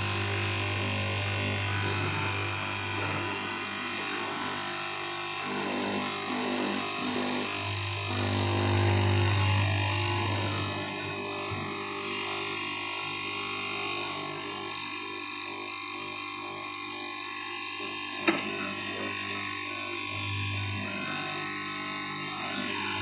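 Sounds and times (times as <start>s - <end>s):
cloth cutting machine running: 0.0s - 23.0s.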